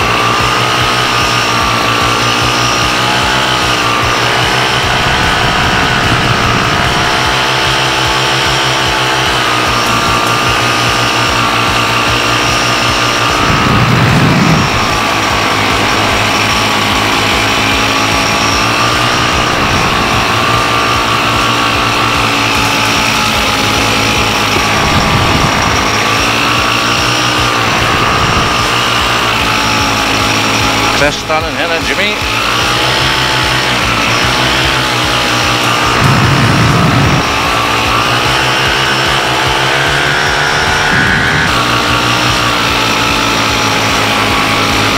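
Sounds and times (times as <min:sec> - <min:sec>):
wind noise on microphone: 0:00.0 - 0:31.0, 0:32.2 - 0:44.9
paramotor engine and propeller running: 0:00.0 - 0:44.9.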